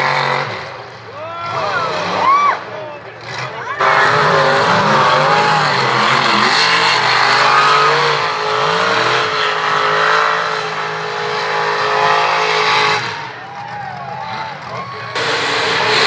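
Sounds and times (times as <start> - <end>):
truck engine revving high: 0.0 - 16.0.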